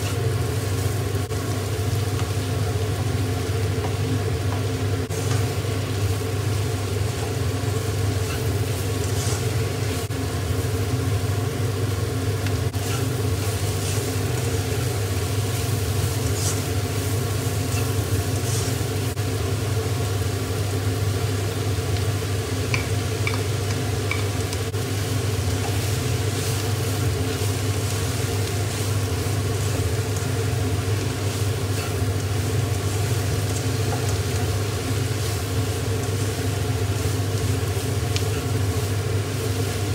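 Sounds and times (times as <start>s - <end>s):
vegetables sizzling in a wok: 0.0s - 39.9s.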